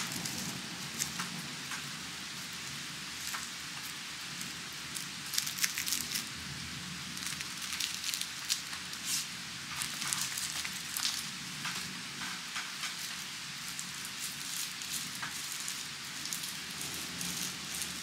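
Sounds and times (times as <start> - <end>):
raindrops ticking on a surface: 0.0 - 6.4, 7.0 - 18.0
steady rain hiss: 0.0 - 18.0.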